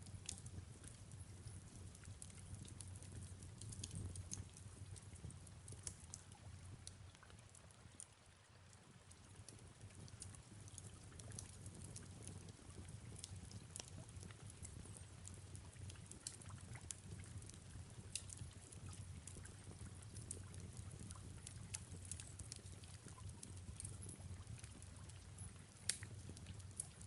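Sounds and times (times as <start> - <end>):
fire crackling: 0.0 - 8.1, 9.2 - 27.0
soft rain: 0.0 - 27.0.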